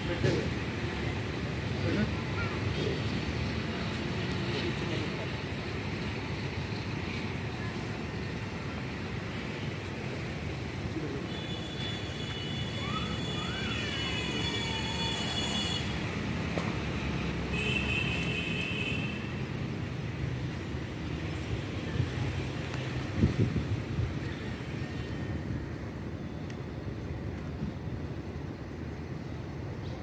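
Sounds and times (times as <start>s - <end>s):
distant traffic rumble: 0.0s - 30.0s
wind: 0.0s - 30.0s.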